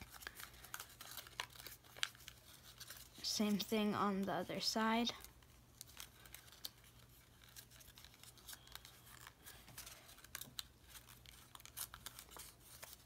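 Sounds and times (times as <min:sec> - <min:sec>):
paper folding crackle: 0:00.0 - 0:13.0.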